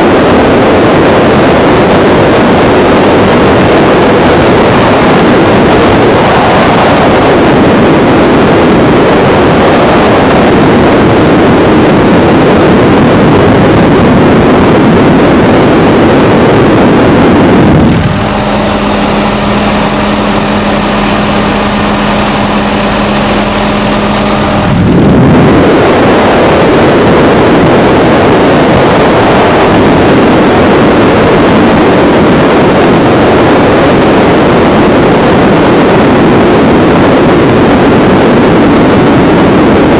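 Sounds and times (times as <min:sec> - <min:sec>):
pitched machinery hum: 0:00.0 - 0:39.8
helicopter rotor and engine rush: 0:00.0 - 0:39.9
wind on microphone: 0:00.0 - 0:39.9.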